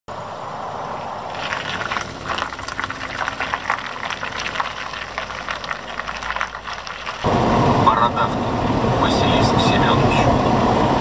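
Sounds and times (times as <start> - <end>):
tyres rolling over gritty asphalt: 1.0 - 10.3.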